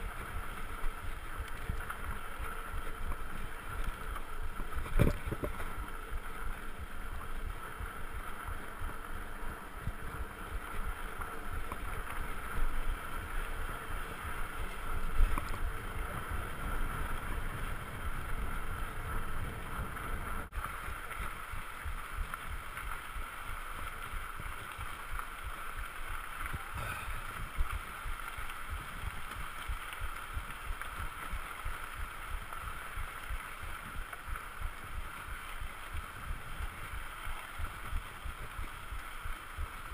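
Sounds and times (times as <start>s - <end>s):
bike rumbling over rough ground: 0.0s - 39.9s.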